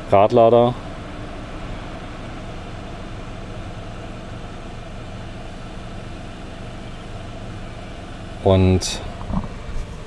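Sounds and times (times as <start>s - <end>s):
heavy engine humming: 0.0s - 10.0s.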